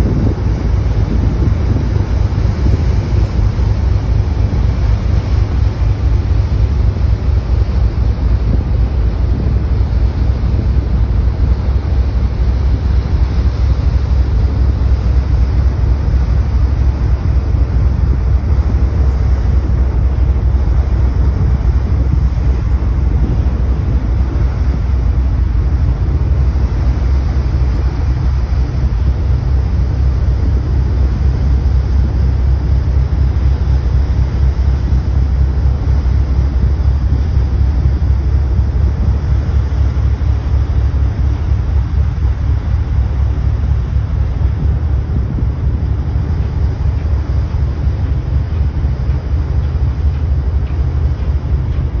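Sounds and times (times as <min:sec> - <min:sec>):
boat engine rumble: 0:00.0 - 0:52.0
wind buffeting microphone: 0:00.0 - 0:52.0.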